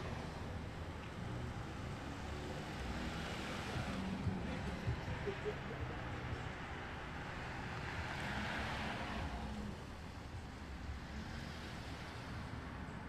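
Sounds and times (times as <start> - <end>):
car passing: 0.0 - 13.0
low traffic rumble: 0.0 - 13.0.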